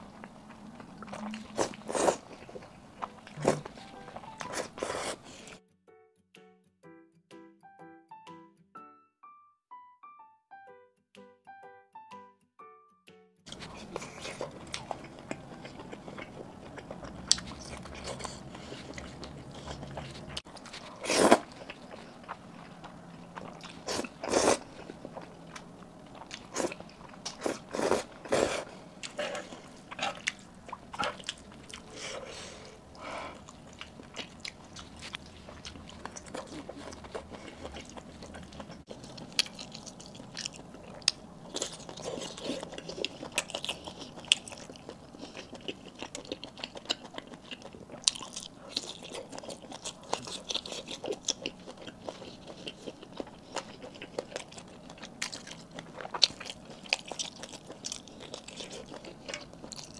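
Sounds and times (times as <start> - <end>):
close-miked eating and chewing: 0.0 - 5.6, 13.5 - 59.9.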